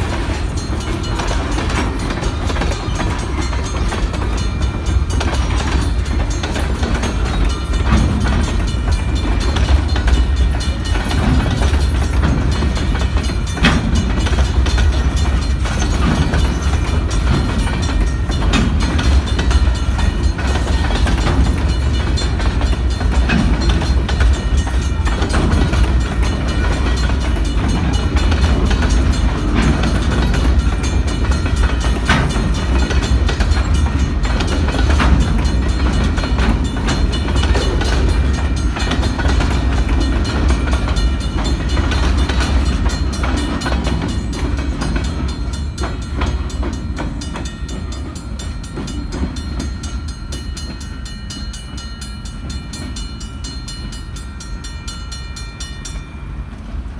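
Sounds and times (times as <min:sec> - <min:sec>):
freight train wheels rumbling: 0:00.0 - 0:56.9
wheels clanking on rail joints: 0:00.0 - 0:56.9.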